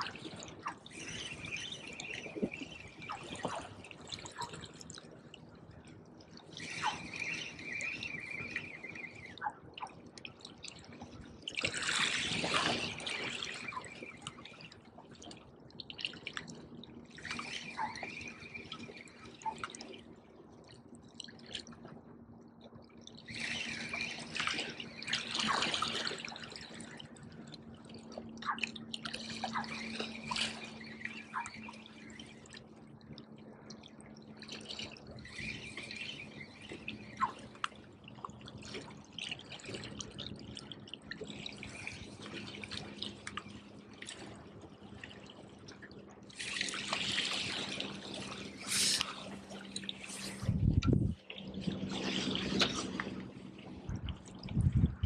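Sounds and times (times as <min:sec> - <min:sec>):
water lapping against rocks: 0:00.0 - 0:20.2, 0:23.1 - 0:32.7, 0:34.4 - 0:55.0.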